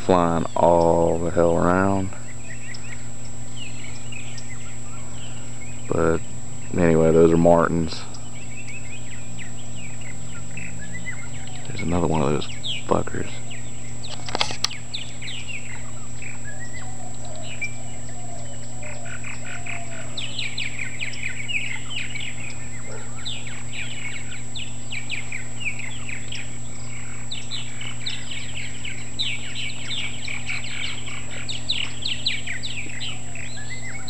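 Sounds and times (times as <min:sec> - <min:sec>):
birds chattering chirps: 0:00.0 - 0:34.0
steady low hum: 0:00.0 - 0:34.0.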